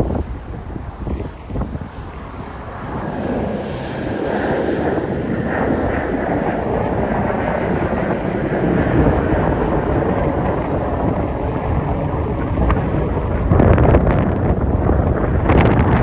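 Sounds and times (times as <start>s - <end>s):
jet engine rush: 0.0s - 16.0s.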